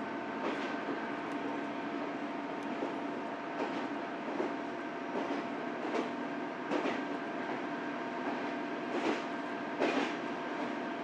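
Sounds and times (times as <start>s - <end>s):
railcar engine drone: 0.0s - 11.0s.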